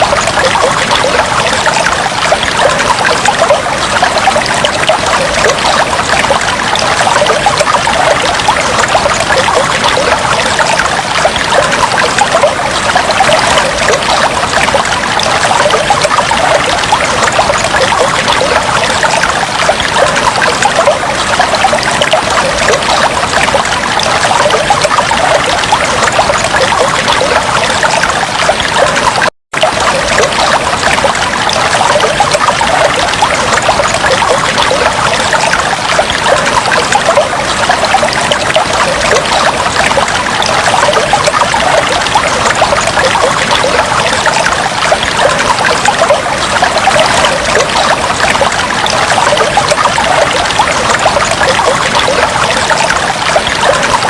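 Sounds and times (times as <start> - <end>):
aquarium water trickling and bubbling: 0.0 - 54.0.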